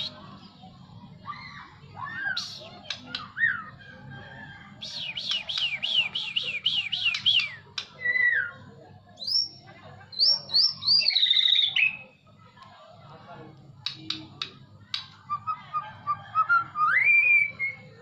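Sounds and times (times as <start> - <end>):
songbird singing: 2.0 - 12.2, 13.8 - 18.0.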